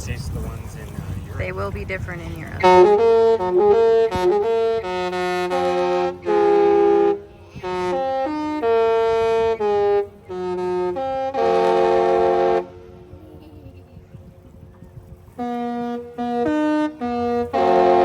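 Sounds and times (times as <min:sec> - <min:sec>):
musical ship horn chords: 0:01.4 - 0:13.2, 0:15.2 - 0:18.0.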